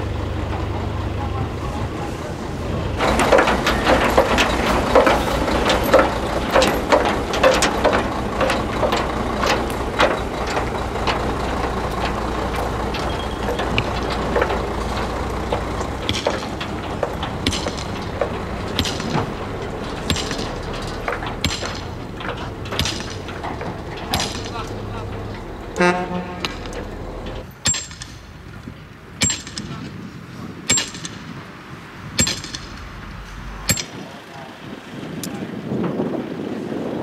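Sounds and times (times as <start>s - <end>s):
loose metal clanks and rattles: 0.0s - 31.4s, 32.1s - 34.2s
diesel lorry engine rumble: 0.0s - 37.0s.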